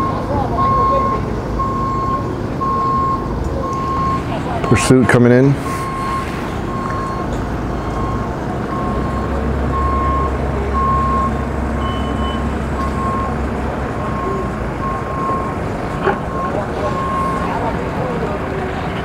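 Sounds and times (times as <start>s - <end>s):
backup alarm beeping: 0.0s - 18.1s
low engine rumble: 0.0s - 19.0s.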